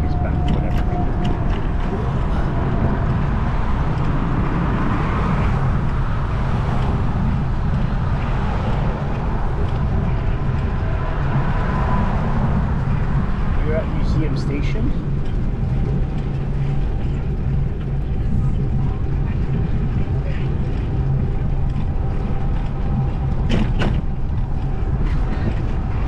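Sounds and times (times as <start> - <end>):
road traffic noise: 0.0 - 26.0
wind buffeting microphone: 0.0 - 26.0.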